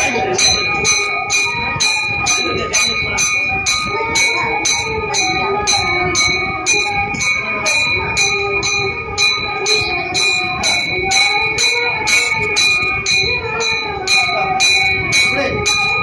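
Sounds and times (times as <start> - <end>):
temple bell ringing: 0.0 - 16.0
voices chanting: 0.0 - 16.0.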